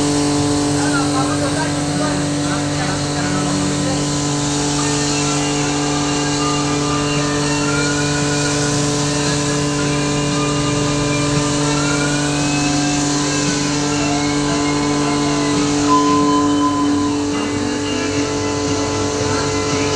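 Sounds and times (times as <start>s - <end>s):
even hiss: 0.0s - 19.9s
steady motor hum: 0.0s - 19.9s.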